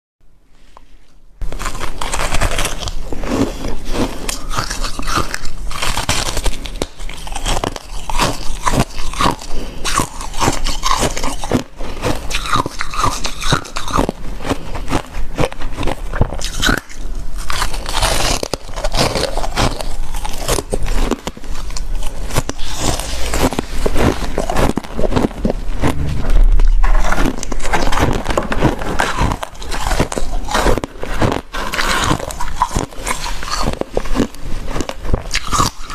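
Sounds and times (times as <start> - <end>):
chewing crunchy ice: 1.4 - 35.9.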